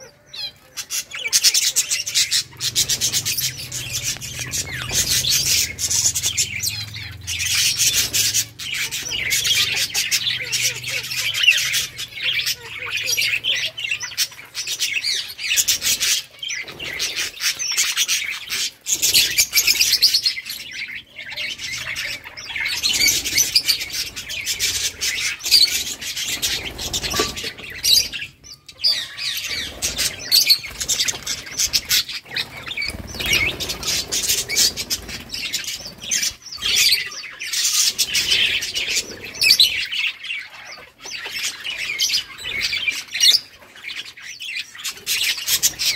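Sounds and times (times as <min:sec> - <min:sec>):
budgerigars chirping: 0:00.0 - 0:45.9.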